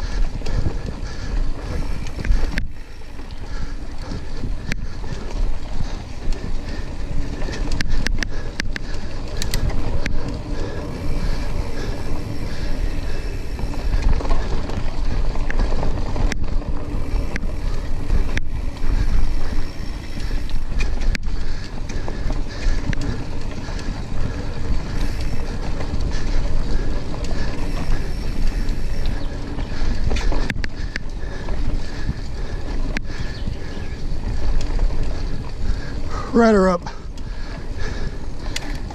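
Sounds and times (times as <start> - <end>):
tyres rolling on dirt: 0.0 - 38.9
wind buffeting microphone: 0.0 - 38.9.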